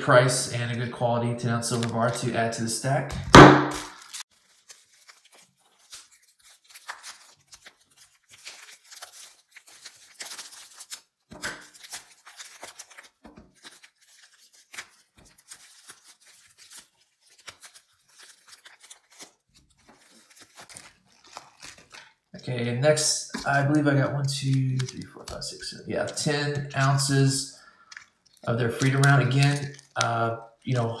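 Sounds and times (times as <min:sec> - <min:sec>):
plastic wrap tearing and crinkling: 0:01.5 - 0:02.3, 0:03.3 - 0:22.4, 0:23.3 - 0:31.0.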